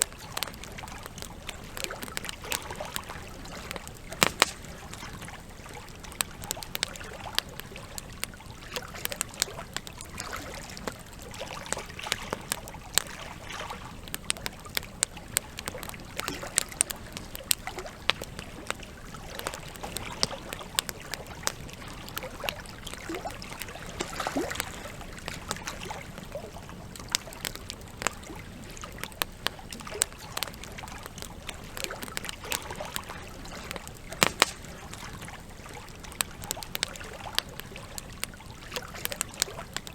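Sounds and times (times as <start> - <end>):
campfire crackling and popping: 0.0 - 39.9
running water trickling: 0.0 - 39.9.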